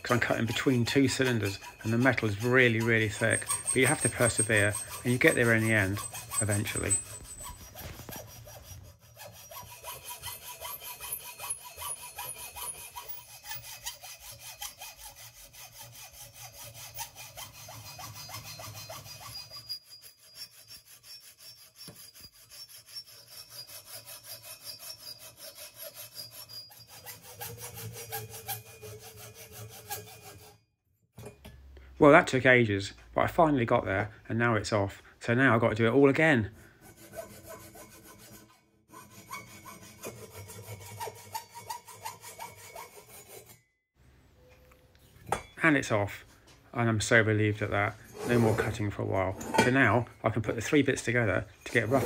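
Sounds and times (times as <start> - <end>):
hacksaw cutting through aluminium: 0.0 - 30.6, 36.6 - 43.7, 47.6 - 52.0.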